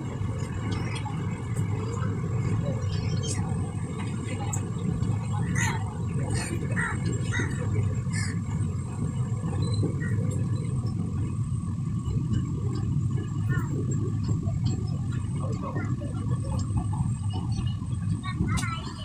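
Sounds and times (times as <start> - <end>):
faint scattered voices: 0.0 - 19.0.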